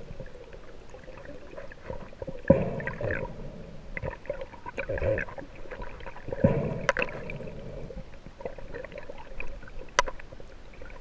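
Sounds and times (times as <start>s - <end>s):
water sloshing and bubbling: 0.0s - 11.0s.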